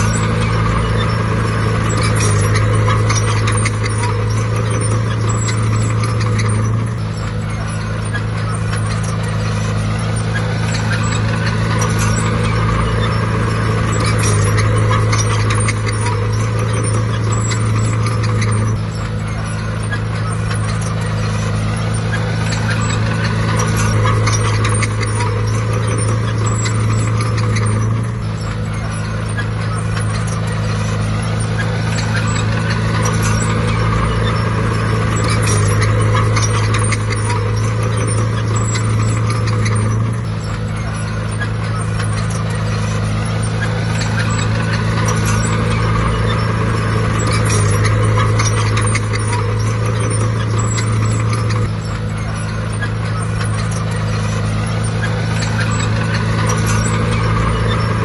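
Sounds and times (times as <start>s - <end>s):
heavy diesel engine under load: 0.0s - 58.0s
metallic clatter: 0.0s - 58.0s.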